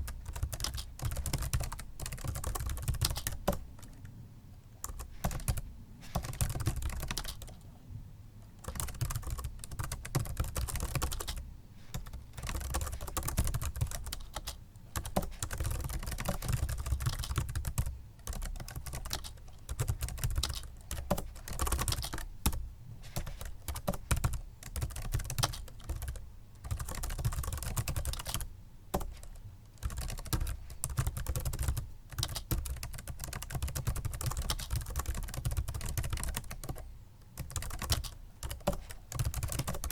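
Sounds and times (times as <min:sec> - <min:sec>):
soft keyboard typing: 0:00.0 - 0:04.2, 0:04.8 - 0:07.7, 0:08.5 - 0:39.9.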